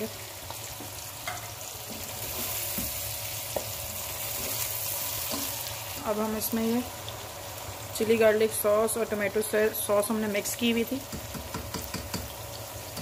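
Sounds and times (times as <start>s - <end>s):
stir-fry sizzling in a pan: 0.0s - 13.0s.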